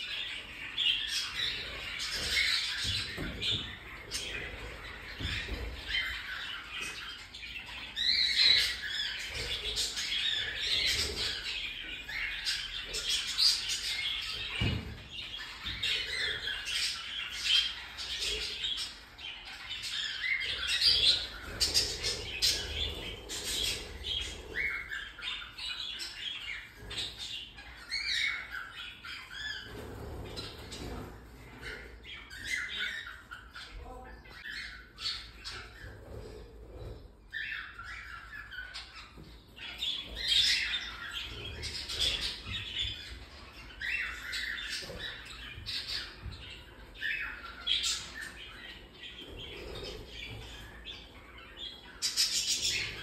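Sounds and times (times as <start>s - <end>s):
cockatiels chirping and squawking: 0.0s - 53.0s.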